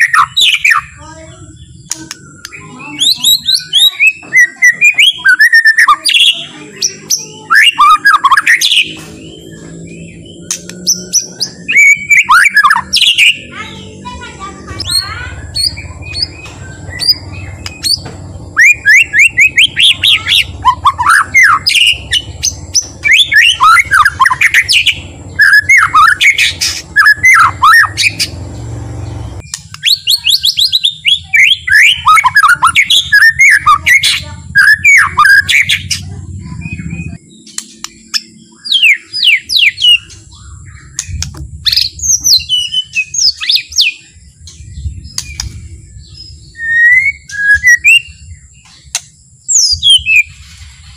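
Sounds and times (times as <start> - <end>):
songbird whistling and chattering: 0.0 - 50.9.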